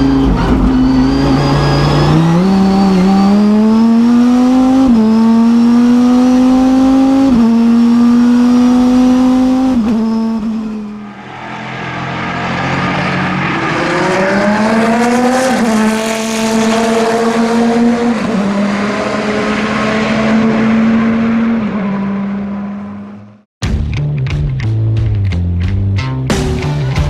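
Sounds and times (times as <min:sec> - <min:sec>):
race car engine at full throttle: 0:00.0 - 0:23.5.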